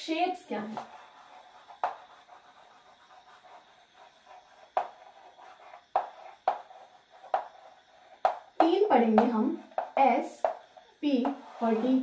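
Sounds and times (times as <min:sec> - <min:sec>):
chalk scratching on blackboard: 0:00.5 - 0:12.0
chalk tapping on board: 0:00.7 - 0:12.0.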